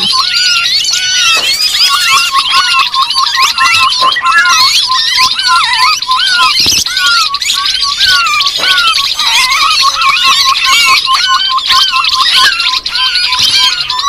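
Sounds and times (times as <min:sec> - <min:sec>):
birds chattering and squeaking: 0:00.0 - 0:14.0.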